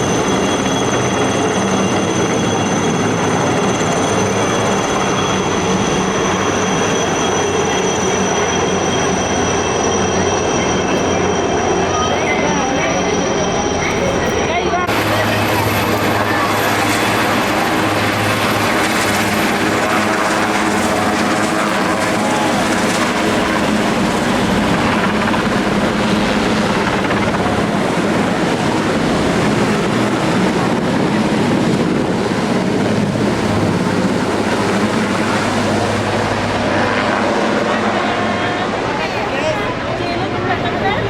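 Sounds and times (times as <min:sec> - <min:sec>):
aircraft engine drone: 0:00.0 - 0:41.0.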